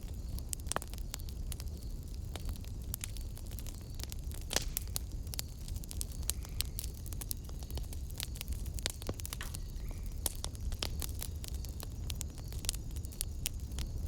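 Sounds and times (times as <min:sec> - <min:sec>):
fire popping and snapping: 0:00.0 - 0:14.0
low rumble of flames: 0:00.0 - 0:14.0
wood fire crackling: 0:00.0 - 0:14.0.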